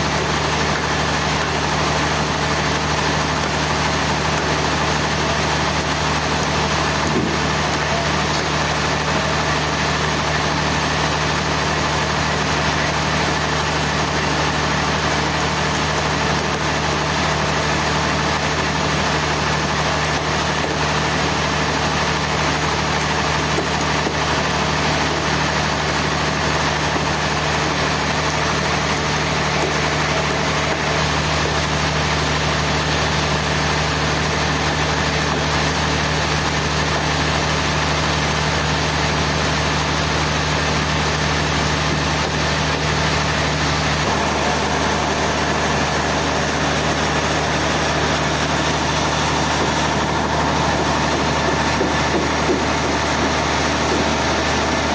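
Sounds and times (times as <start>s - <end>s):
sawmill engine humming: 0.0s - 54.9s.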